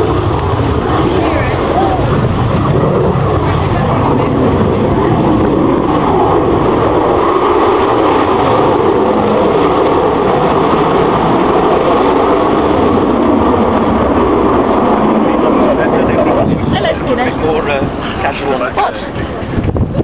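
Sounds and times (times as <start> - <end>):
loud jet noise: 0.0 - 20.0.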